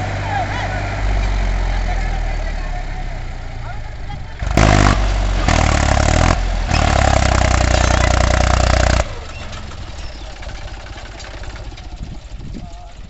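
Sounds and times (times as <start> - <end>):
diesel tractor engine: 0.0 - 13.0.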